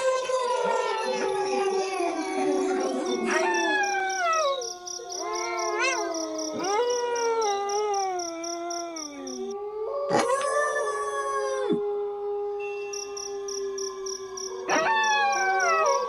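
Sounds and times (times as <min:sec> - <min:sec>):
wolves howling in chorus: 0:00.0 - 0:16.0.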